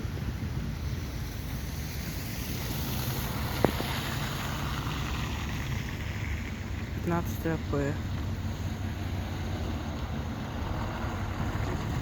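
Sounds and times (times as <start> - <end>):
bus engine rumbling: 0.0 - 12.0
street noise: 0.0 - 12.0.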